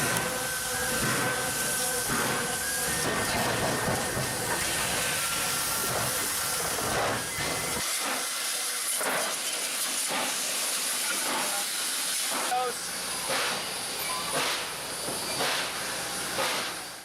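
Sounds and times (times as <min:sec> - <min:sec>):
soft locomotive chuffs: 0:00.0 - 0:17.0
steam locomotive hissing: 0:00.0 - 0:17.0.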